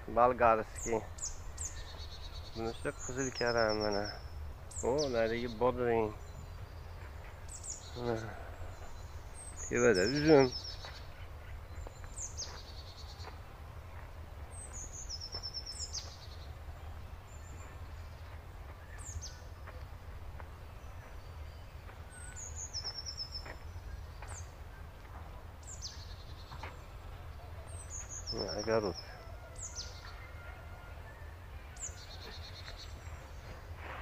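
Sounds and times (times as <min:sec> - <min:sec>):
songbird singing with trill: 0:00.0 - 0:34.0.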